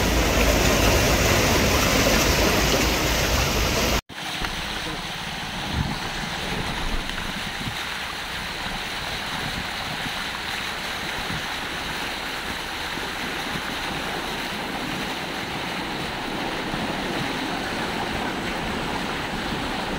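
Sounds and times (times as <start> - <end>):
vehicle driving through floodwater: 0.0 - 19.9.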